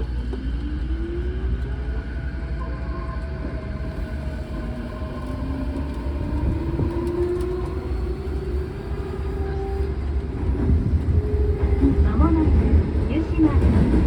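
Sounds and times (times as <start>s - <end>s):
wheels rumbling on track: 0.0s - 14.0s.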